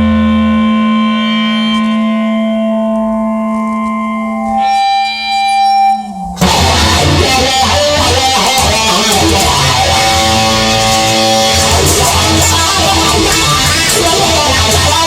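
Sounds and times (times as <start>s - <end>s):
electric guitar chords with effects: 0.0s - 15.0s
strummed guitar: 0.0s - 15.0s.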